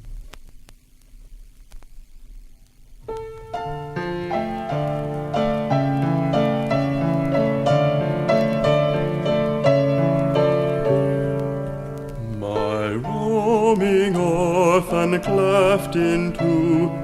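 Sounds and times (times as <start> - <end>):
piano playing: 3.1 - 17.0.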